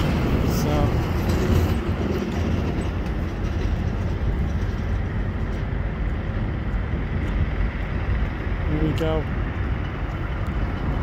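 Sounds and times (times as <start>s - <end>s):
road traffic: 0.0s - 11.0s
truck engines rumbling: 0.0s - 11.0s.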